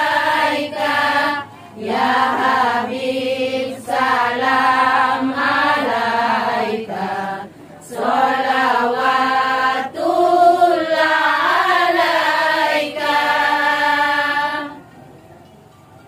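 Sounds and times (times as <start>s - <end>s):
women singing in unison: 0.0s - 14.8s.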